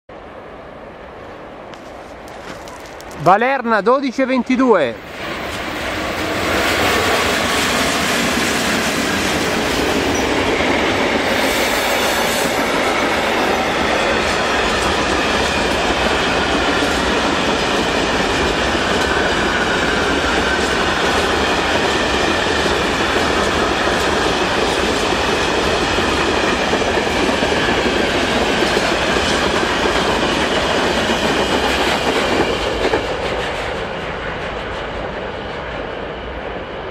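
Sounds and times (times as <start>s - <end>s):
freight train wheels clattering: 5.4s - 35.7s.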